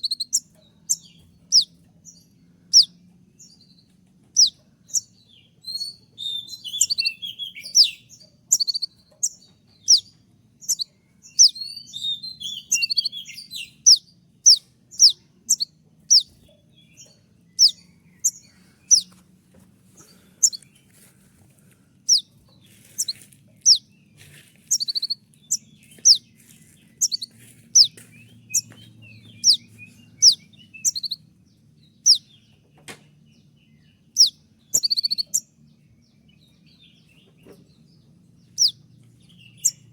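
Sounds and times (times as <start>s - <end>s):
sunbird singing: 0.0s - 39.9s.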